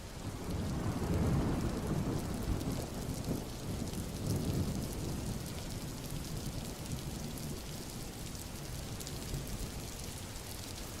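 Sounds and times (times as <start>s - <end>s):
rain falling on a road: 0.0s - 11.0s.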